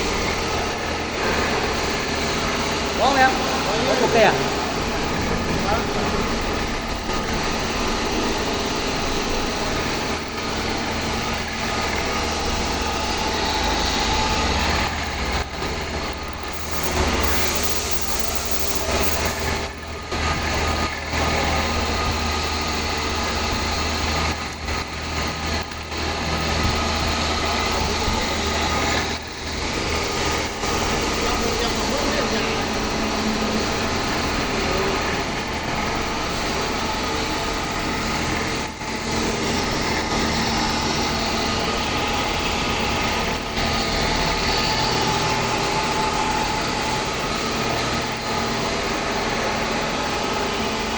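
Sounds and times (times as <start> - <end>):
industrial machinery running: 0.0 - 50.9.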